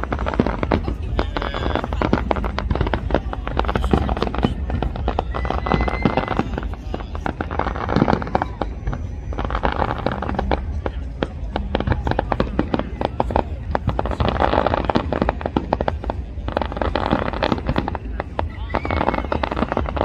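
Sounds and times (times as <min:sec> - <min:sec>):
fireworks crackling: 0:00.0 - 0:20.0
loud firework bangs: 0:00.0 - 0:20.0.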